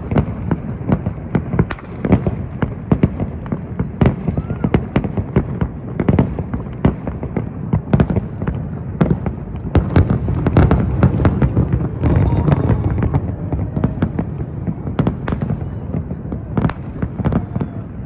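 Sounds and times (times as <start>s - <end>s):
firework bangs and crackles: 0.0s - 18.0s.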